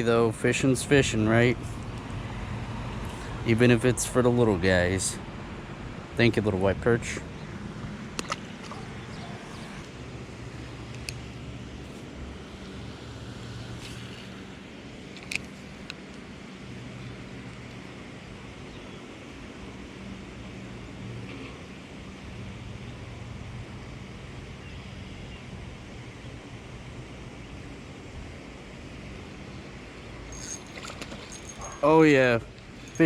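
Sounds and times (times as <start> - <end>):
low engine hum: 0.0 - 33.0
outdoor background noise: 0.0 - 33.0.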